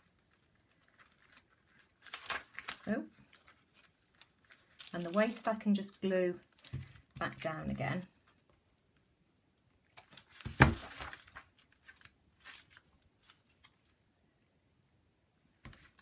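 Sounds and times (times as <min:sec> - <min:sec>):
tape rustling: 0:00.0 - 0:14.0.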